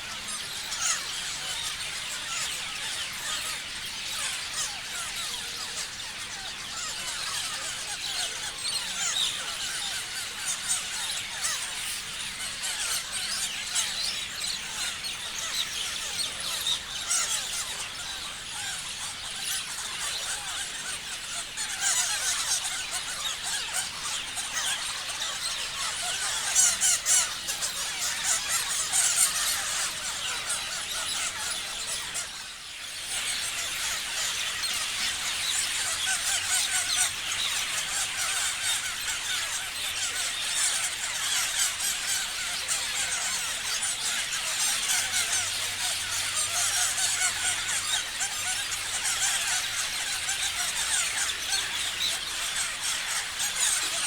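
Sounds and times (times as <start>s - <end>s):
parrots chirping: 0.0s - 54.0s.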